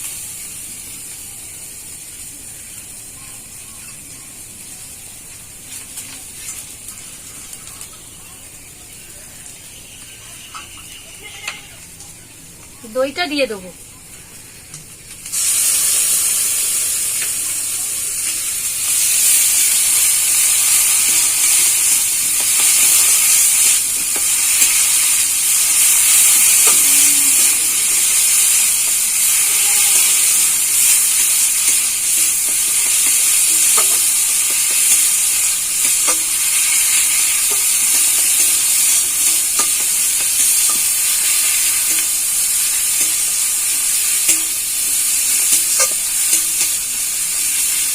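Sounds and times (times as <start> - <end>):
loud steady sizzle in hot oil: 0.0 - 47.9.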